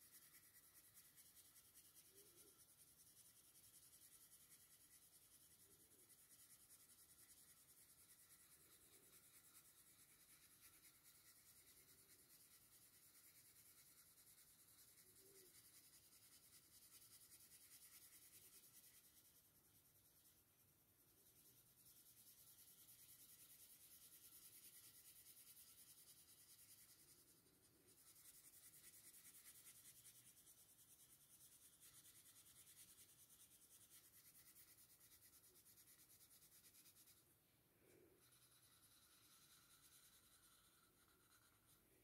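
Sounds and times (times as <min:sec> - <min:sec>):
pencil scratching on paper: 0:00.0 - 0:20.5, 0:21.1 - 0:37.3, 0:37.9 - 0:42.0.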